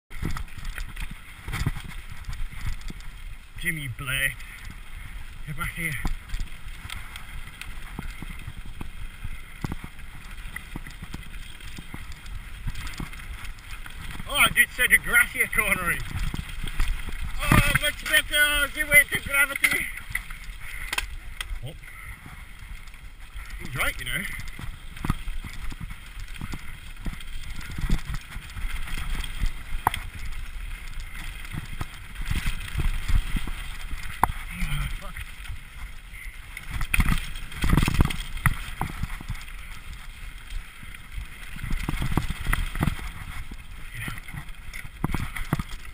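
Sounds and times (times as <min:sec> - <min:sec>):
bike knocking and rattling: 0:00.1 - 0:45.9
bike tyres rumbling on dirt trail: 0:00.1 - 0:45.9.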